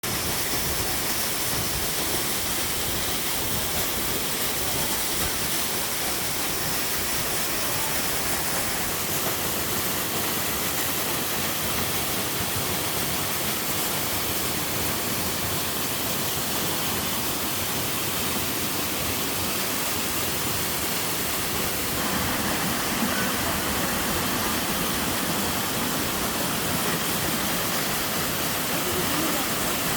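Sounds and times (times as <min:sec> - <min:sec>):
waterfall pouring into pool: 0:00.0 - 0:29.9.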